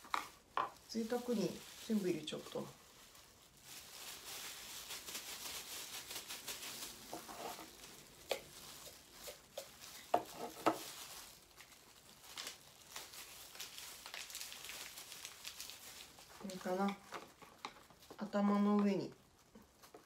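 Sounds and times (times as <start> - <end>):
plastic rustling and crinkling: 0.0 - 20.0.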